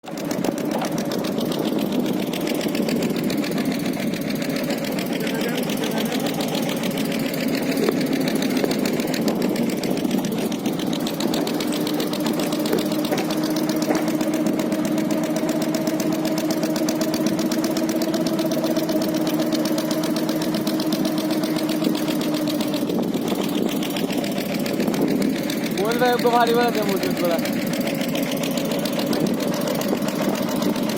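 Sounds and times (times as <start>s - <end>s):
boat engine knocking: 0.0s - 30.9s.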